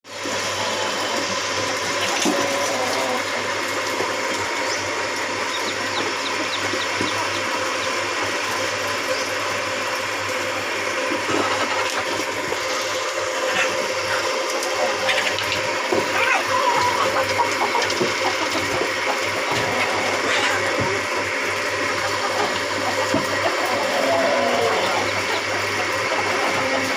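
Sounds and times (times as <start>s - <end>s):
small motor humming: 0.1s - 26.9s.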